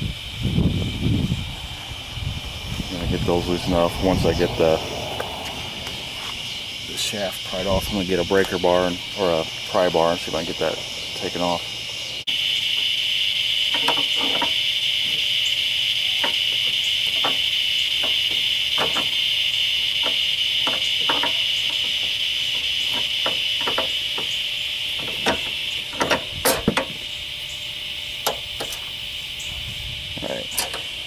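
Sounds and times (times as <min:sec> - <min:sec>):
high-pitched background drone: 0:00.0 - 0:31.0.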